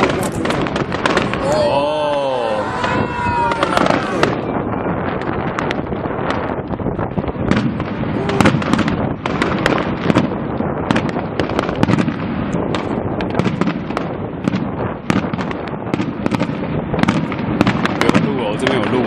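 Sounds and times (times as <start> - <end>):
rumble of shells bursting: 0.0 - 1.4, 2.8 - 19.0
firework bangs and crackles: 0.0 - 19.0.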